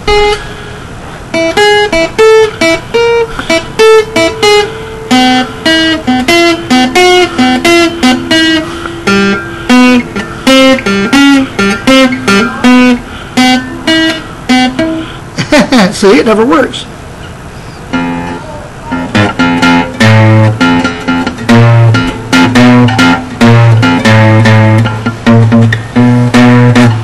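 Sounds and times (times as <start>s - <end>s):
acoustic guitar plucked notes: 0.0s - 15.6s, 16.4s - 27.0s.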